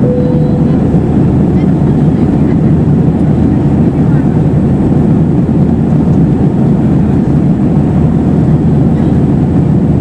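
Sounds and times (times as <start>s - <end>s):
aircraft cabin drone: 0.0s - 10.0s.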